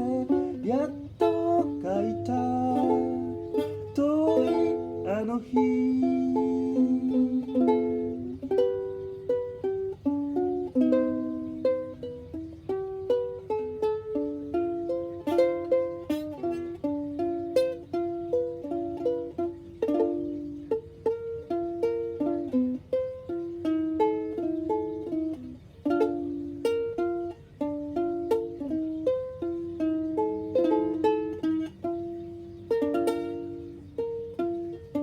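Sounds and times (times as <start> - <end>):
ukulele playing: 0.0 - 35.0.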